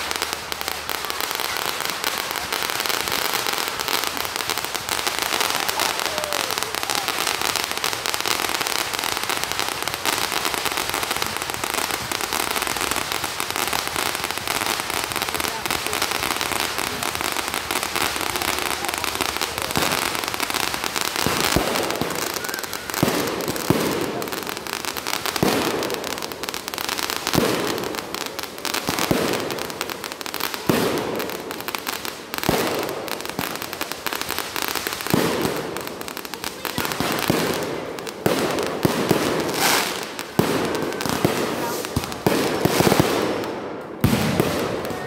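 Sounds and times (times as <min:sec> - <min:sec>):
firework bangs: 0:00.0 - 0:45.0
firework fountain hissing and crackling: 0:00.0 - 0:45.0.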